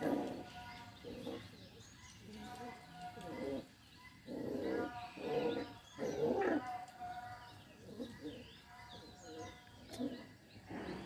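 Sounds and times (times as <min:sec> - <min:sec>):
puppies growling: 0:00.0 - 0:11.0.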